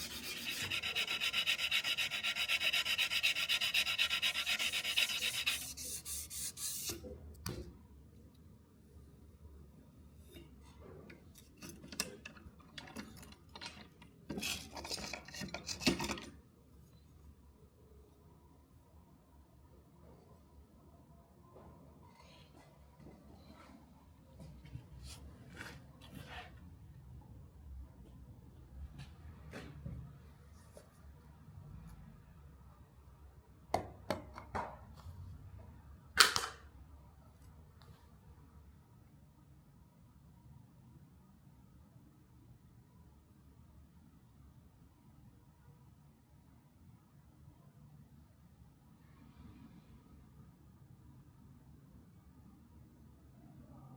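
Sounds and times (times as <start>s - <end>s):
faint background noise: 0.0s - 53.9s.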